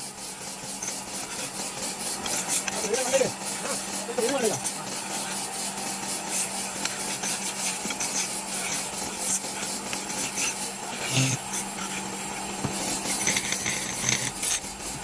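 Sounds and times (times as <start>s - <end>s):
sandpaper rasping on wood: 0.0s - 12.1s, 12.8s - 15.0s
steady low hum: 0.0s - 15.0s.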